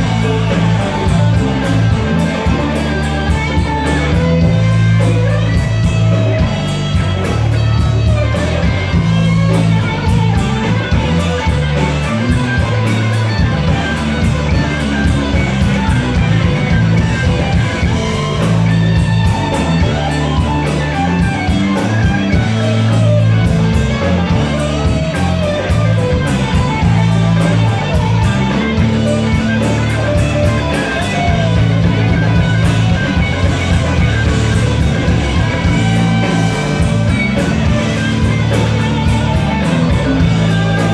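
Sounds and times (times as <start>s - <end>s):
bass guitar: 0.0s - 40.9s
drums: 0.0s - 40.9s
electric guitar: 0.0s - 40.9s.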